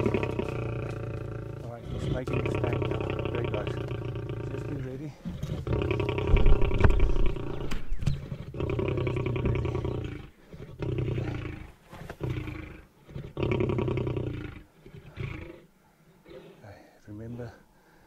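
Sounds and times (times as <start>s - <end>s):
lion growling: 0.0s - 16.9s.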